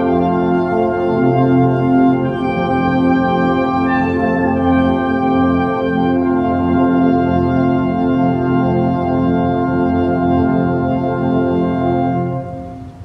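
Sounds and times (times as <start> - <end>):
brass band sustained chord: 0.0 - 13.0.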